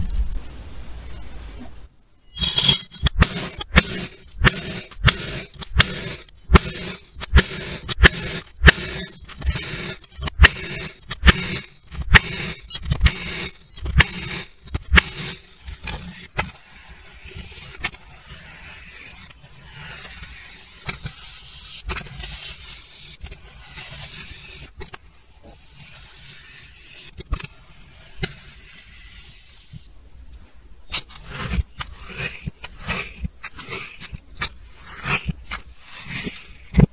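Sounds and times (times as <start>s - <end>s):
metal scoop scraping sand: 2.3s - 29.8s, 30.9s - 36.9s.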